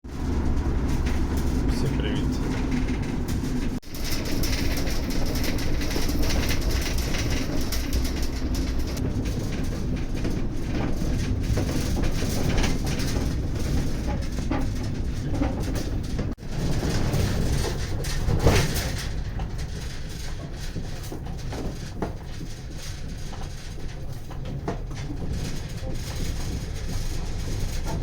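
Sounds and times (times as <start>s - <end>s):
vehicle rumbling: 0.0s - 28.0s
light clicks and rattles: 0.1s - 28.0s.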